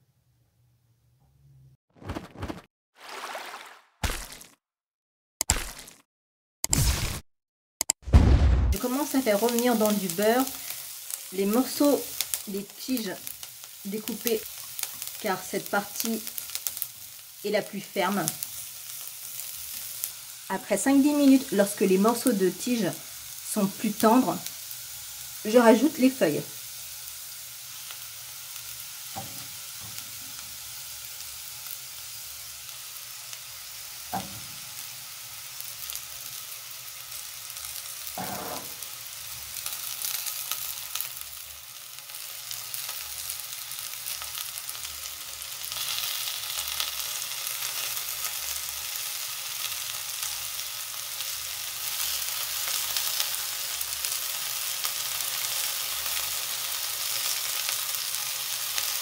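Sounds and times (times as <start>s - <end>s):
vegetables sizzling in butter: 8.8s - 59.0s.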